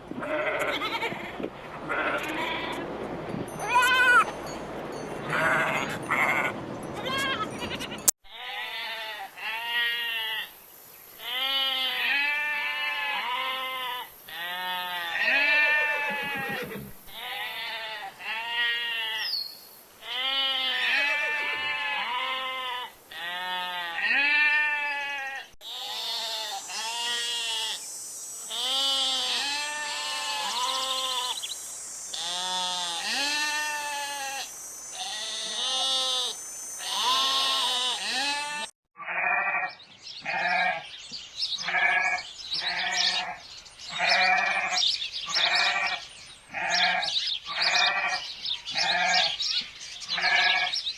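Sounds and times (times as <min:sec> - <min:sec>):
sheep and goats bleating: 0:00.1 - 0:02.9, 0:03.6 - 0:04.3, 0:05.3 - 0:10.5, 0:11.2 - 0:19.3, 0:20.0 - 0:27.8, 0:28.5 - 0:31.5, 0:32.1 - 0:41.0, 0:41.6 - 0:49.4, 0:50.1 - 0:50.8.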